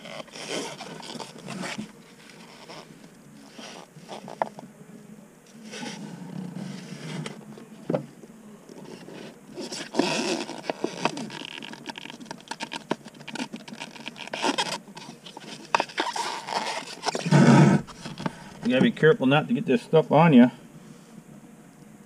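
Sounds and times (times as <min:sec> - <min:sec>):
plastic cup handling noise: 0:00.0 - 0:04.7, 0:05.5 - 0:19.0.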